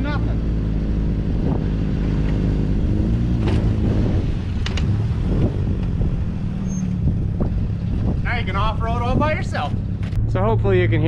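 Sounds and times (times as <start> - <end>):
pickup engine running: 0.0 - 11.0.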